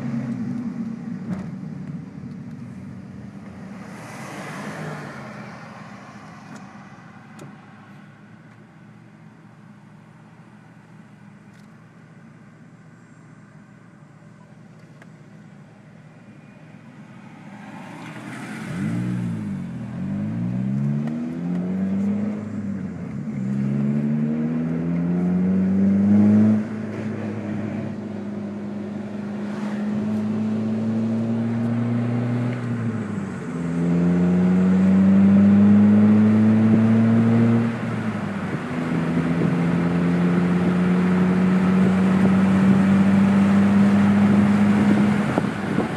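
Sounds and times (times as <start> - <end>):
car engine accelerating: 0.0 - 11.7, 16.4 - 45.9.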